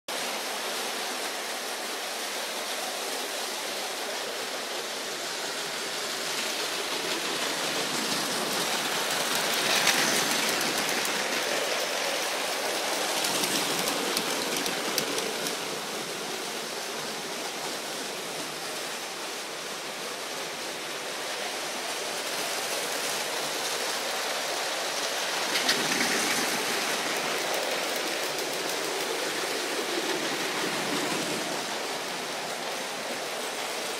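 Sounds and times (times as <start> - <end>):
toy trains whirring and rattling: 0.2 - 33.9.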